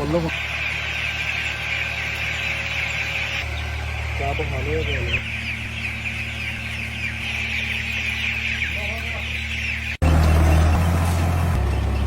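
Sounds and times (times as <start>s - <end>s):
chickens calling: 0.0s - 12.0s
generator humming: 0.0s - 12.0s
low engine rumble: 0.0s - 12.0s.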